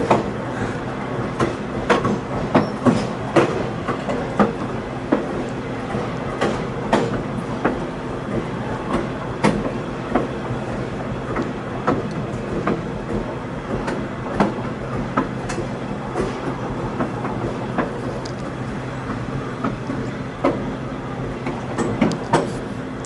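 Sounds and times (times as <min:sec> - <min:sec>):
train rumbling along: 0:00.0 - 0:23.0
wheels clicking over rail joints: 0:00.0 - 0:23.0.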